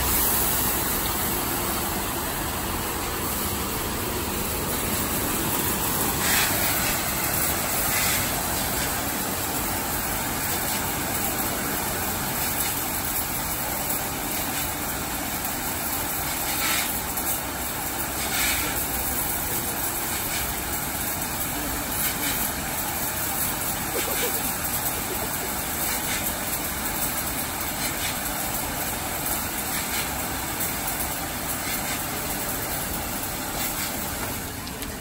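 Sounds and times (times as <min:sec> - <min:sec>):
pump and motor hum: 0:00.0 - 0:35.0
washing machine water spray: 0:00.0 - 0:35.0.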